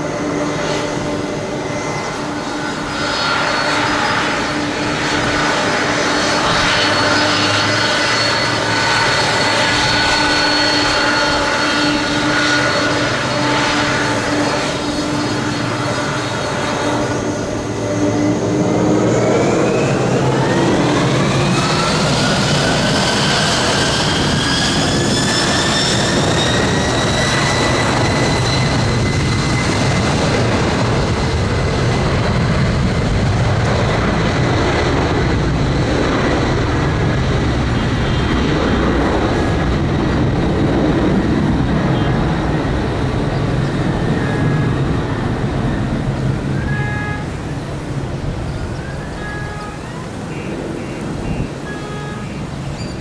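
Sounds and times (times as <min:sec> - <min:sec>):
jet engines whining and roaring: 0:00.0 - 0:53.0.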